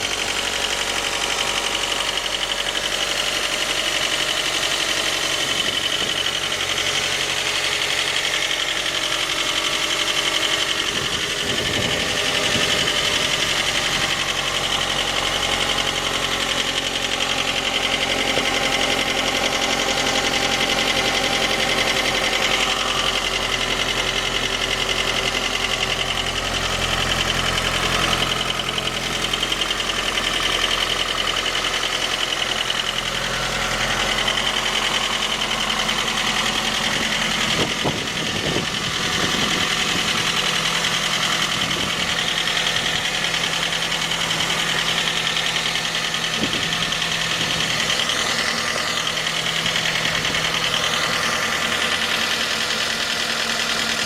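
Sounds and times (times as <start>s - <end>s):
engine running with light knock: 0.0s - 54.0s.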